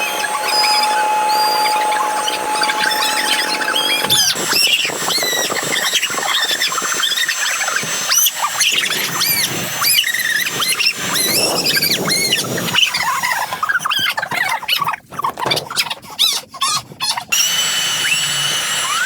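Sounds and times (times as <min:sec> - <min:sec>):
rubber balloon squeaking: 0:00.0 - 0:19.0.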